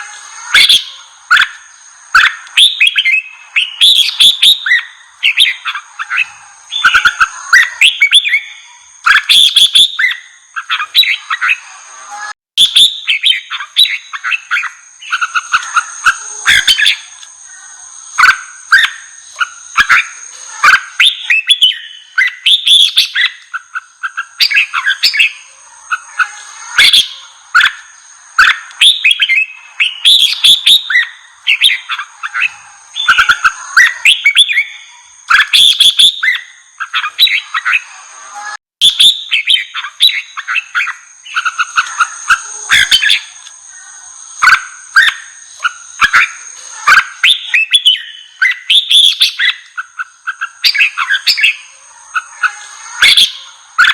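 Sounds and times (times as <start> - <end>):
birds singing warbling song: 0.0 - 53.9
steady high-pitched tones: 0.0 - 53.9.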